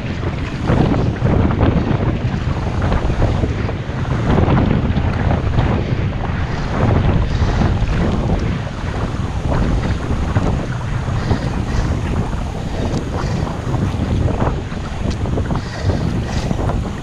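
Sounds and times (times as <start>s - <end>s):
water sloshing around kayak: 0.0s - 17.0s
wind buffeting microphone: 0.0s - 17.0s.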